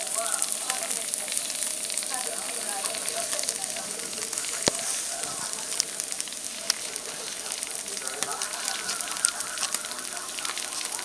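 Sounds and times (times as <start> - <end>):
boiler crackling and sizzling: 0.0 - 11.0
gas burner hissing: 0.0 - 11.0.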